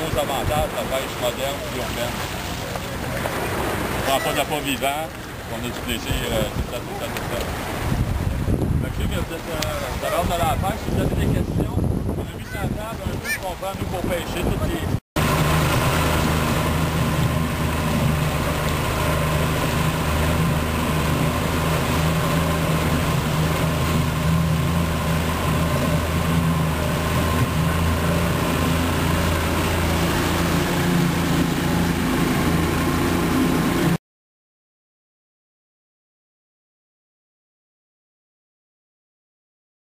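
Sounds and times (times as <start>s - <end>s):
outboard motor humming: 0.0s - 34.0s
water rushing: 0.0s - 34.0s
wind: 0.0s - 34.0s.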